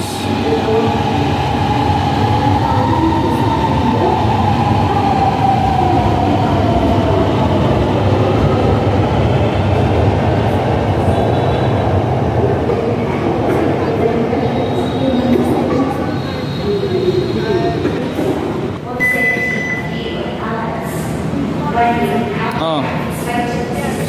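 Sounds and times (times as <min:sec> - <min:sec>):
train rumbling and whining: 0:00.0 - 0:24.0.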